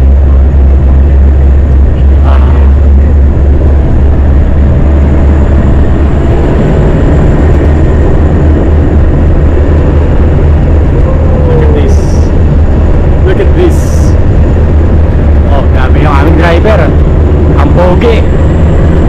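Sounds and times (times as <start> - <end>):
jeep engine rumbling: 0.0 - 19.0.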